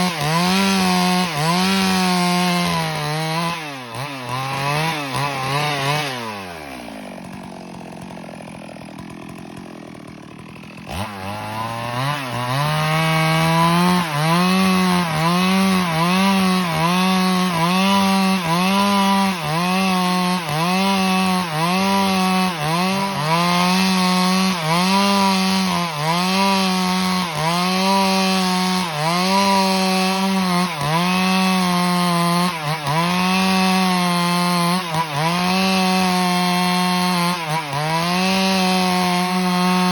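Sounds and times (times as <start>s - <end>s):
chainsaw cutting log: 0.0s - 39.9s
chainsaw idling and revving: 0.0s - 39.9s.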